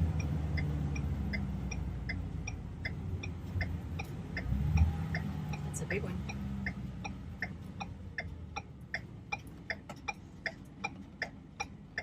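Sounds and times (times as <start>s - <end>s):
car indicator relay clicking: 0.0s - 12.0s
idling vehicle hum: 0.0s - 12.0s.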